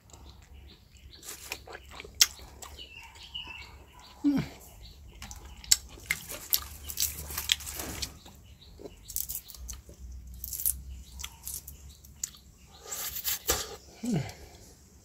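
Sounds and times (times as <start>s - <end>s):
fruit shells crackling: 0.0s - 2.8s, 5.1s - 14.5s
wet chewing and sucking: 0.0s - 14.6s.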